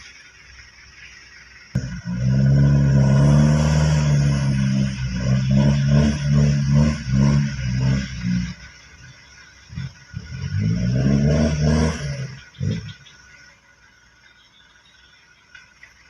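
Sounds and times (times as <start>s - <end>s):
vehicle engine surging: 0.0s - 16.0s.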